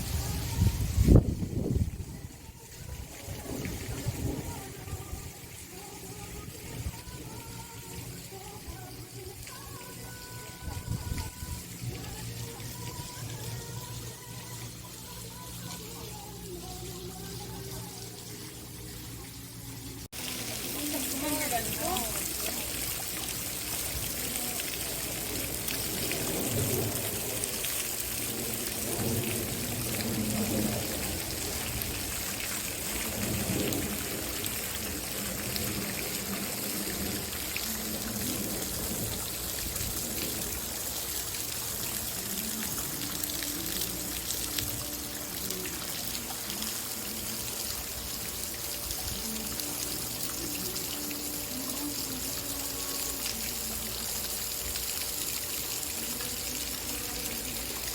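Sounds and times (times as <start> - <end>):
water trickling and pouring: 0.0 - 57.9.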